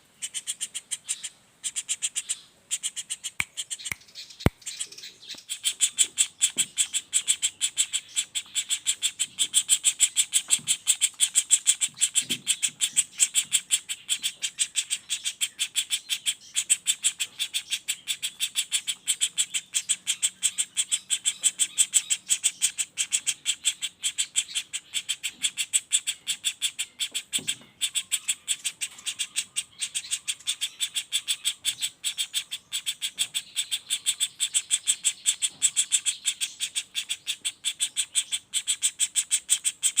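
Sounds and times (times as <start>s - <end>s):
woodpecker rapid rolling call: 0.0s - 40.0s.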